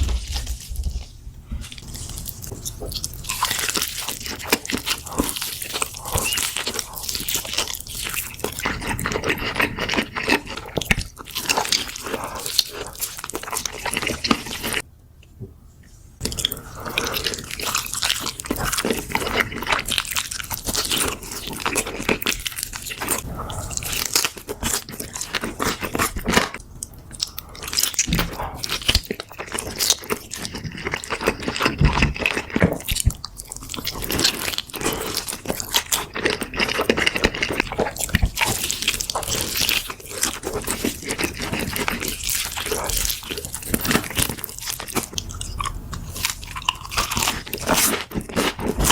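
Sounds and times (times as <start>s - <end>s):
crunching fried chicken: 0.0s - 14.8s, 16.2s - 48.9s.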